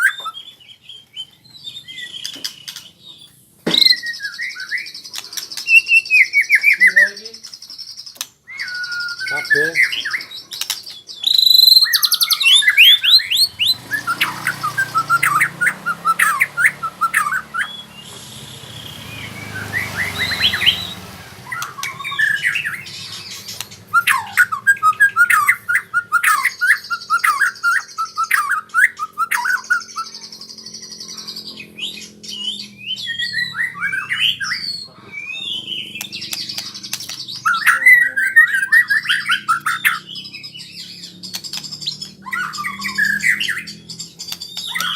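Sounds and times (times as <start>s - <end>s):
bird singing whistled notes and trills: 0.0s - 44.9s.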